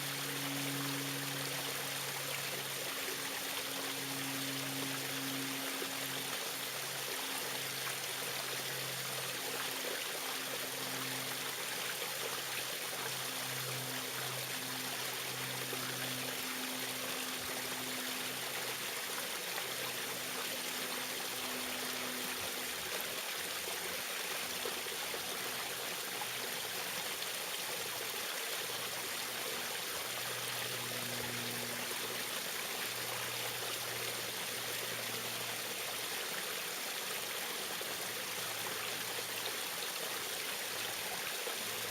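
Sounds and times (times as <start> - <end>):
small waterfall splashing: 0.0 - 41.9.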